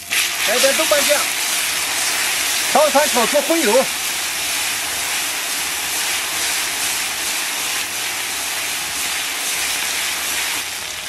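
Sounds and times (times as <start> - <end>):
chili paste sizzling in oil: 0.0 - 11.0.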